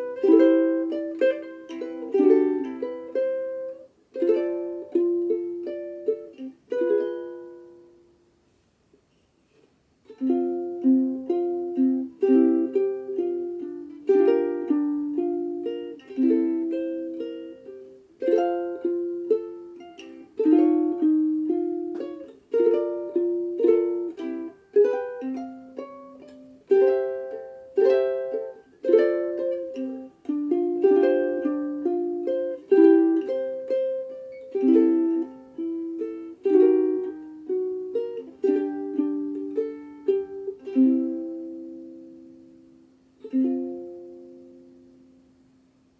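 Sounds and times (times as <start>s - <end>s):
ukulele picked notes and chords: 0.0s - 8.4s, 9.5s - 45.9s.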